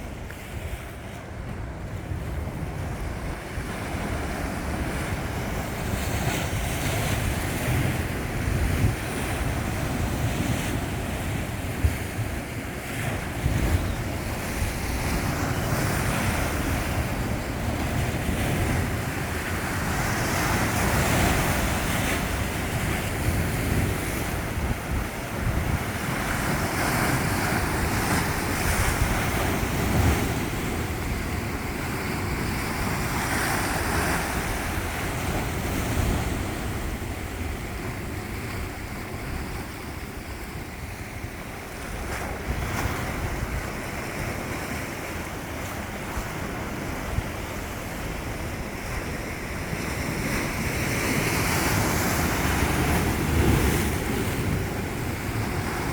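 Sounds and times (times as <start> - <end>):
sea waves washing onto shore: 0.0 - 55.9
wind buffeting microphone: 0.0 - 55.9.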